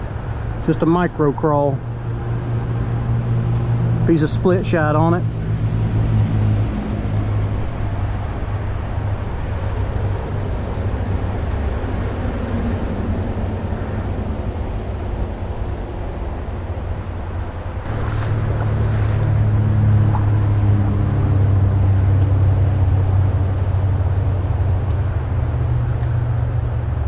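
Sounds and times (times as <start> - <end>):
distant vehicles rumbling: 0.0 - 27.0.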